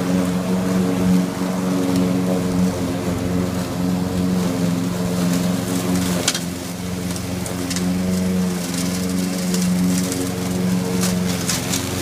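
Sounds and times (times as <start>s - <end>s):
robot lawn mower motor humming: 0.0s - 12.0s.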